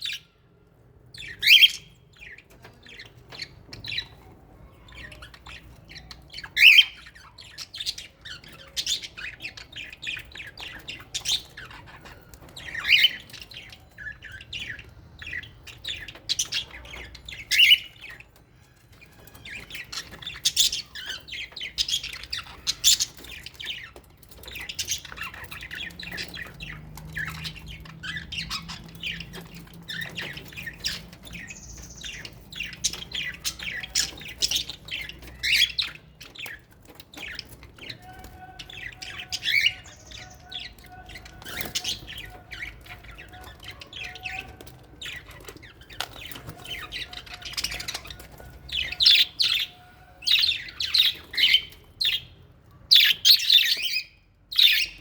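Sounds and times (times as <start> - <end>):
parrots chattering and squawking: 0.0 - 55.0.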